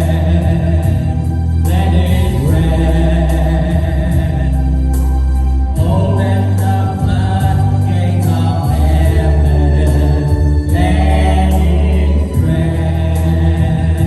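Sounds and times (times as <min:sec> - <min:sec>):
voices singing together: 0:00.0 - 0:05.1, 0:05.7 - 0:14.0
steady beat: 0:00.0 - 0:14.0
sustained bass notes: 0:00.0 - 0:14.0.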